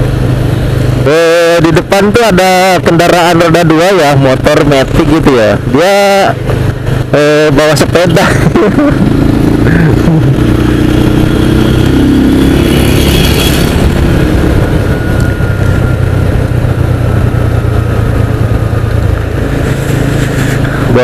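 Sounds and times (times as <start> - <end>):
motorcycle engine running: 0.0 - 21.0
road noise rushing: 0.0 - 21.0.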